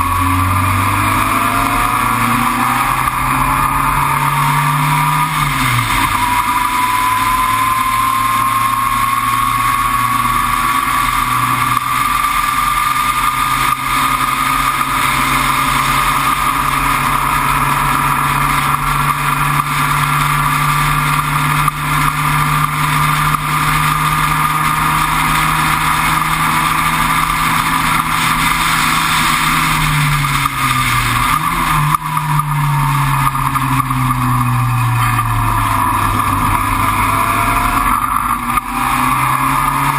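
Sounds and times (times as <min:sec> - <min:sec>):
racing car engine at speed: 0:00.0 - 0:39.9
thin whine rising in pitch: 0:00.0 - 0:39.9.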